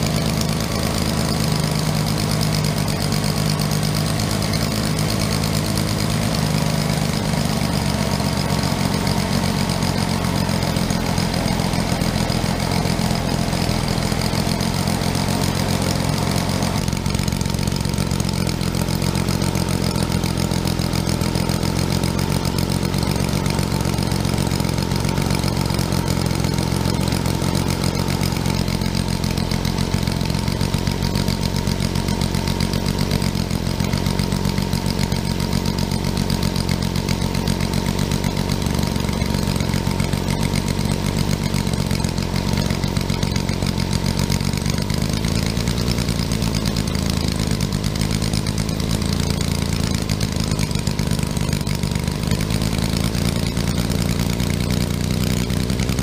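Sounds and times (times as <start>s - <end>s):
model engine running: 0.0s - 56.0s.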